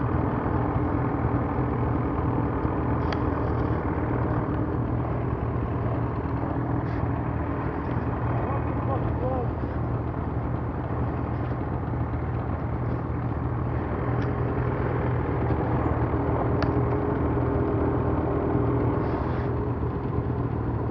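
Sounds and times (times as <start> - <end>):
snowmobile engine droning: 0.0 - 20.9.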